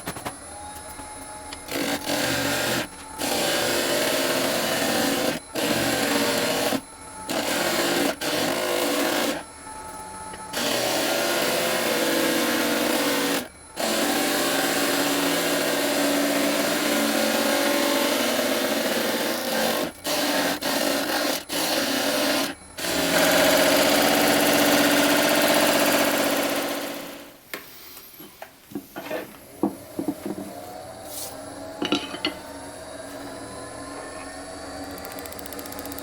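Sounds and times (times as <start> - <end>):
lathe motor running: 1.7 - 27.2, 30.3 - 36.0.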